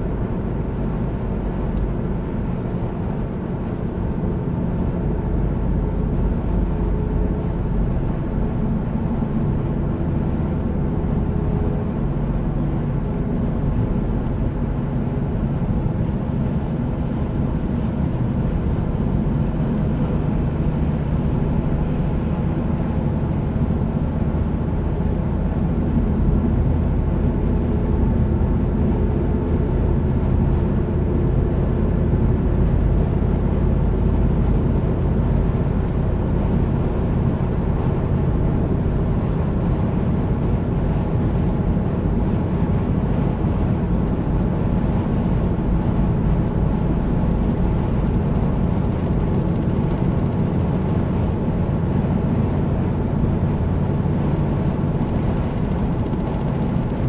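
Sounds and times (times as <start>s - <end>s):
car engine hum: 0.0s - 57.0s.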